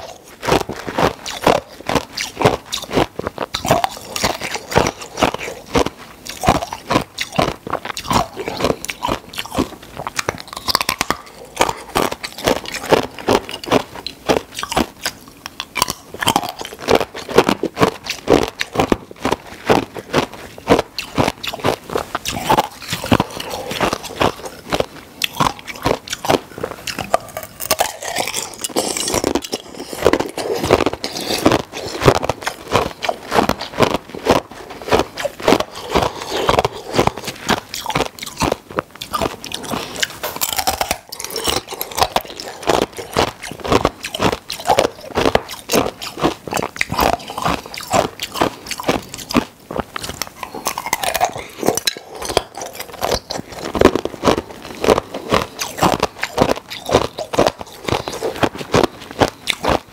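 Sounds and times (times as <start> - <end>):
ice crunching between teeth: 0.0 - 59.9.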